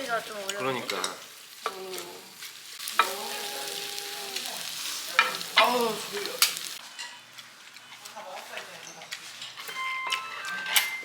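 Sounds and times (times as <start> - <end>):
food sizzling in a pan: 0.0 - 9.4.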